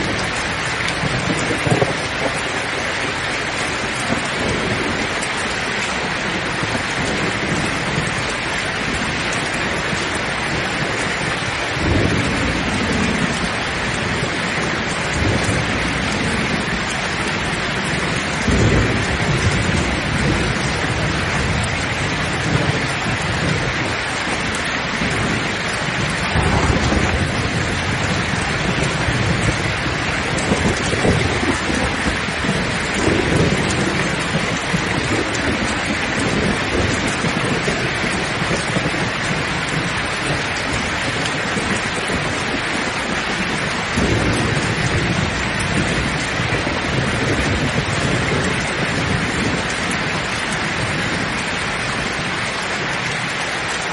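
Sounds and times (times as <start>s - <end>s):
heavy rain: 0.0s - 53.9s
thunder rumbling: 0.0s - 53.9s.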